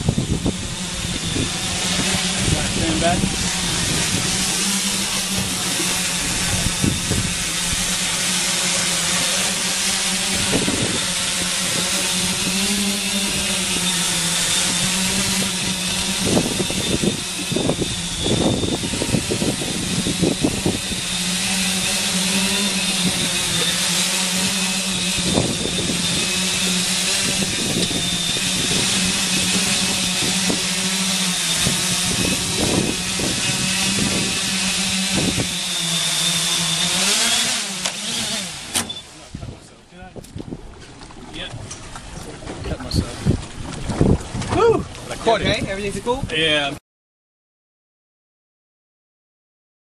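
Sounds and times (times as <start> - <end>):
drone propellers humming: 0.0 - 46.2
low buffeting: 0.0 - 46.3.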